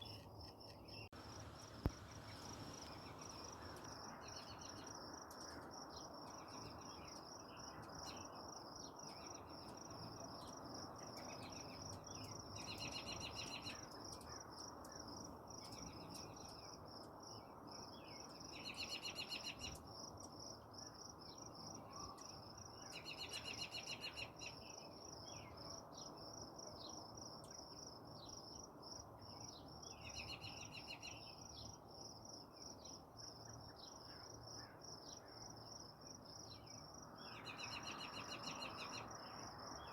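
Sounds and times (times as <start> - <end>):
insect rapid trills: 0.0 - 39.9
insects chirping chorus: 0.0 - 39.9.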